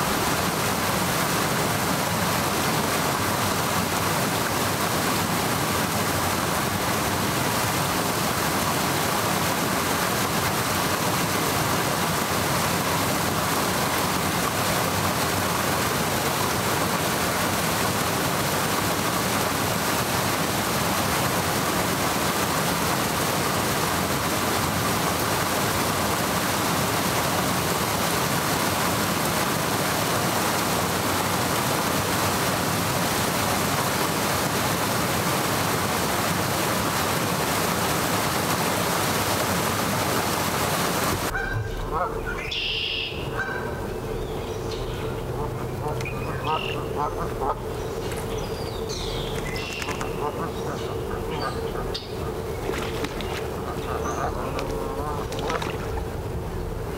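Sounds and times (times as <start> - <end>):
water spilling over weir: 0.0 - 42.4, 43.3 - 56.9.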